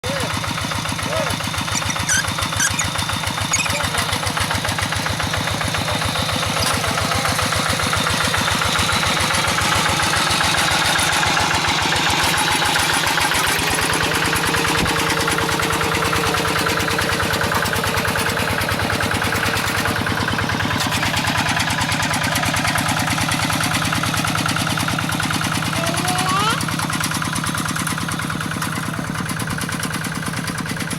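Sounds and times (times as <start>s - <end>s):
tractor engine chugging: 0.0s - 30.9s.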